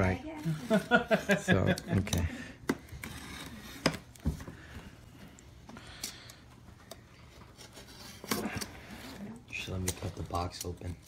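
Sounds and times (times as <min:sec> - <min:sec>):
tape crackles and clicks: 0:01.6 - 0:11.0.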